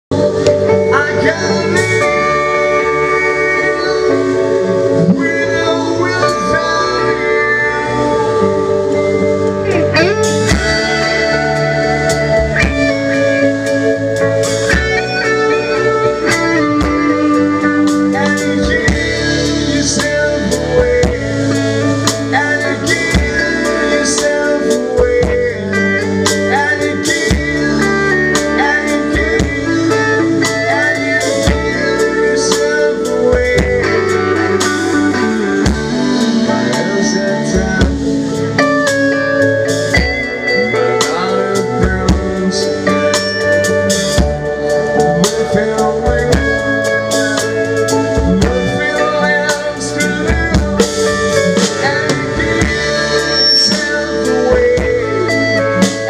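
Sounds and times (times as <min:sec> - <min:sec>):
drum kit with cymbals: 0:00.1 - 0:56.0
electric guitar: 0:00.1 - 0:56.0.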